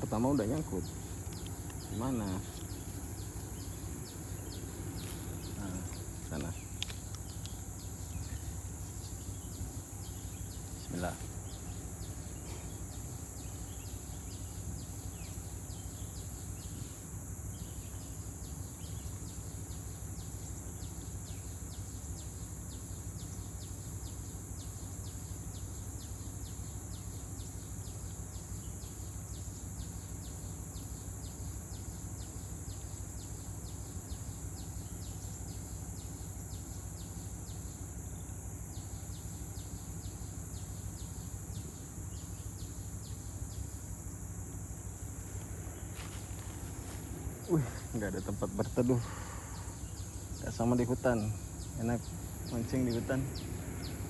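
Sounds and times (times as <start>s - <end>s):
insect pulsing chirp: 0.0s - 54.0s
insects buzzing: 0.0s - 54.0s.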